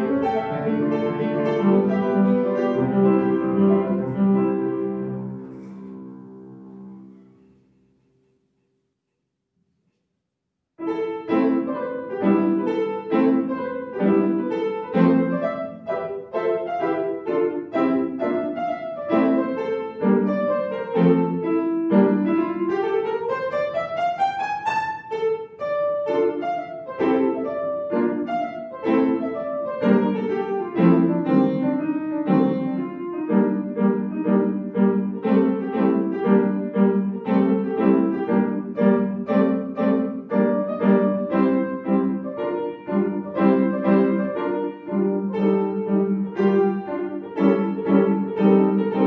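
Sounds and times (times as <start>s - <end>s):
upright piano piece: 0.0s - 8.0s, 10.8s - 49.0s.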